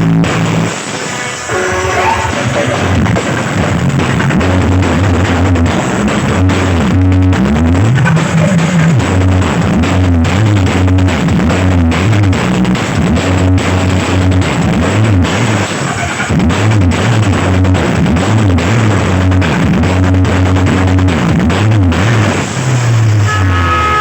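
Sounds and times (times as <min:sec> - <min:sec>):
loud music with bass and drums: 0:00.0 - 0:24.0.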